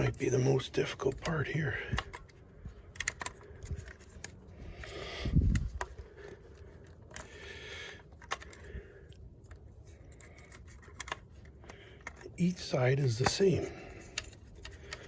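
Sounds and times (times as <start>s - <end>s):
hands clicking and scraping on engine: 0.0s - 15.0s.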